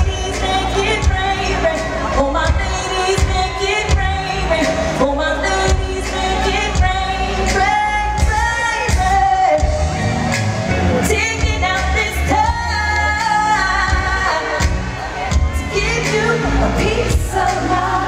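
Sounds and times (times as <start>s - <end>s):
band with bass and drums: 0.0s - 18.0s
woman singing into microphone: 0.0s - 18.0s.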